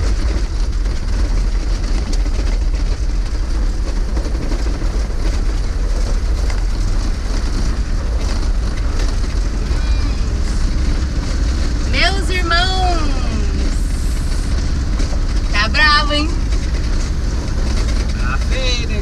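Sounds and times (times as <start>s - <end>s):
van body rattling: 0.0s - 19.0s
van engine and tyres rumbling: 0.0s - 19.0s.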